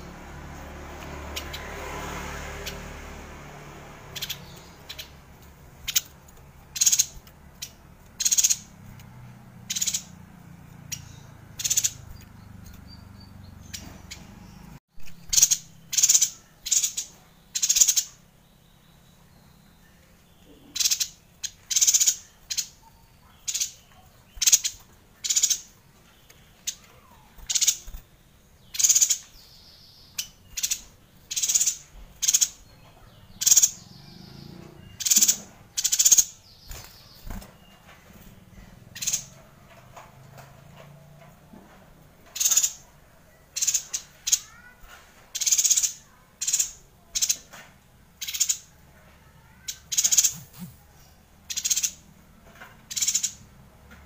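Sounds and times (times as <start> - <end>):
bird calling high chirps: 4.1 - 39.5, 42.2 - 47.6, 48.2 - 52.1.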